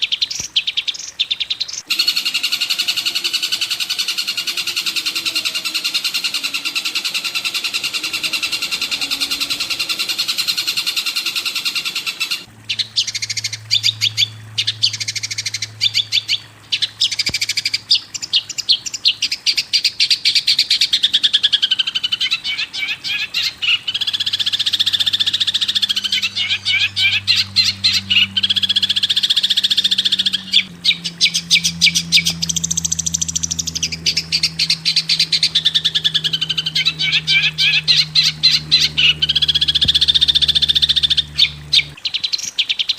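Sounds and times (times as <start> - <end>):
songbird chirps and trills: 0.0 - 42.9
low steady drone: 1.9 - 17.6, 21.1 - 42.1.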